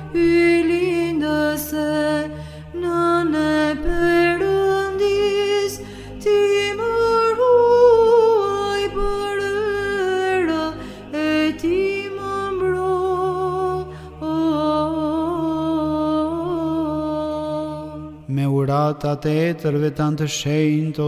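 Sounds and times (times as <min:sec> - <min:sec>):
low vocal drone: 0:00.0 - 0:21.0
solo voice chanting melismatic notes: 0:00.0 - 0:21.0.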